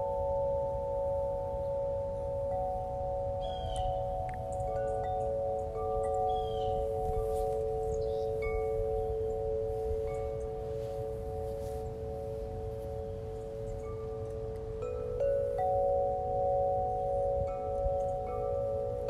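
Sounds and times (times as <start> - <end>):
ambient chime-like music: 0.0 - 19.0.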